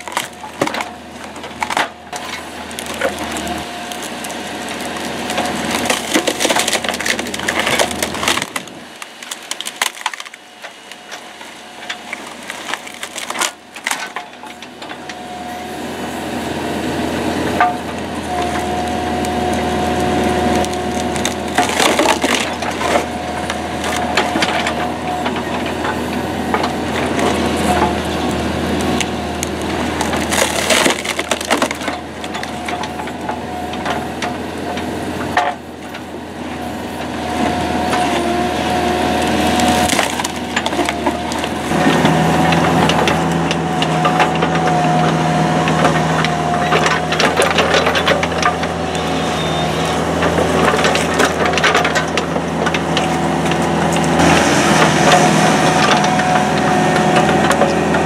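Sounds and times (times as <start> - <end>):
wood cracking and splintering: 0.0 - 15.2, 17.5 - 58.0
excavator running with whine: 0.0 - 58.0.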